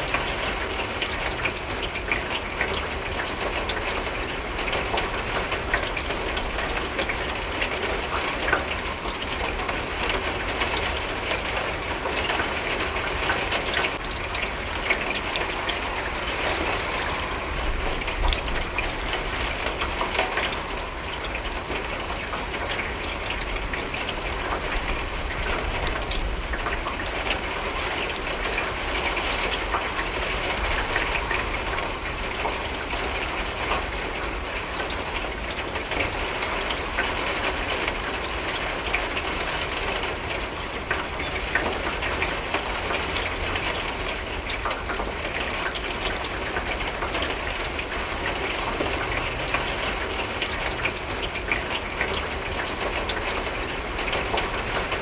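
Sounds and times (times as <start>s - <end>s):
rain hitting a window: 0.0s - 55.0s.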